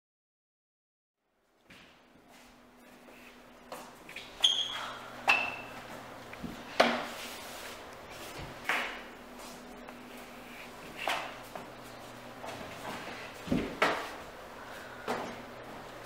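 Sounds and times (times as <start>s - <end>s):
low steady hum: 1.2s - 16.0s.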